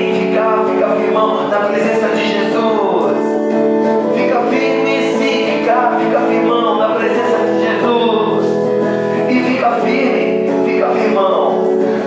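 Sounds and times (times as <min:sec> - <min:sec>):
guitar playing chords: 0:00.0 - 0:12.0
person singing: 0:00.0 - 0:12.0.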